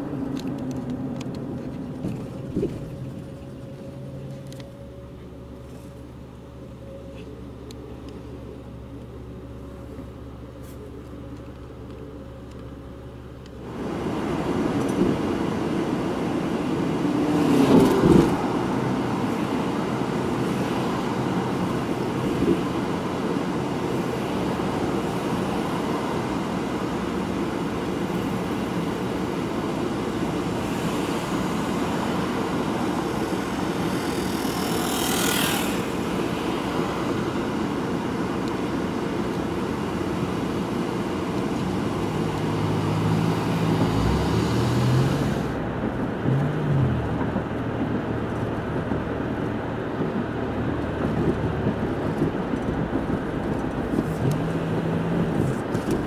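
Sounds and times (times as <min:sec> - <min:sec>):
car engine humming: 0:00.0 - 0:56.0
road and traffic noise: 0:00.0 - 0:56.0
vehicles passing by: 0:00.0 - 0:56.0.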